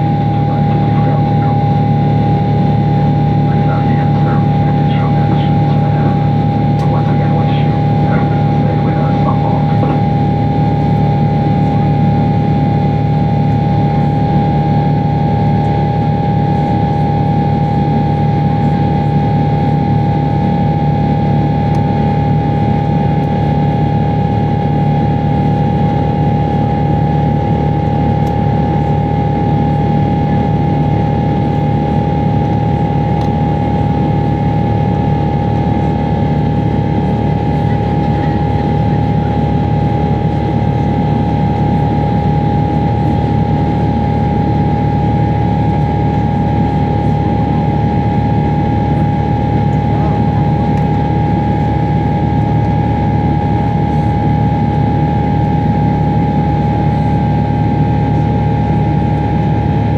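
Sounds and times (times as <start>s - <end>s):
jet engine drone in cabin: 0.0s - 59.9s.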